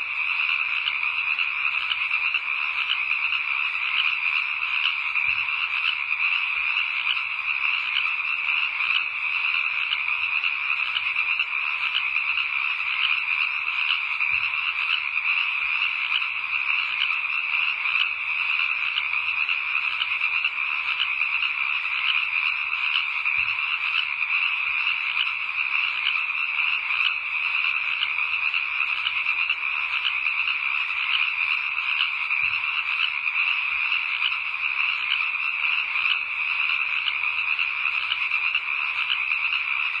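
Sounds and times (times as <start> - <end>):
frogs calling in chorus: 0.0 - 40.0.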